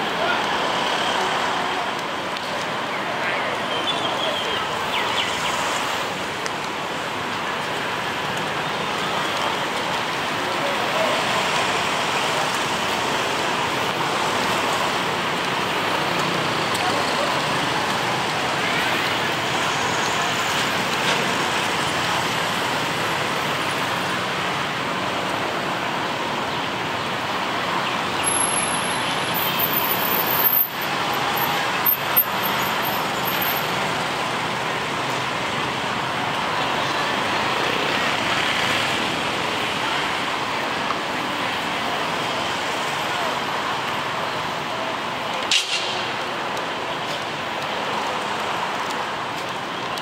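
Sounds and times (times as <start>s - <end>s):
city traffic hum: 0.0s - 50.0s.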